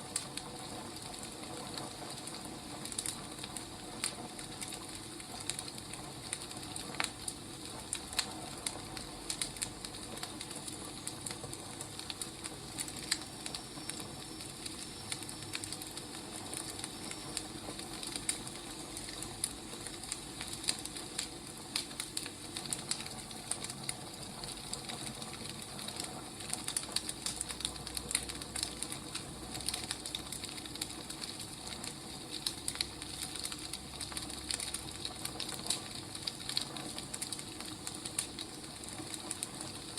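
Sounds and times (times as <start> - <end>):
fire hiss: 0.0 - 39.9
firewood crackling and popping: 0.0 - 39.9.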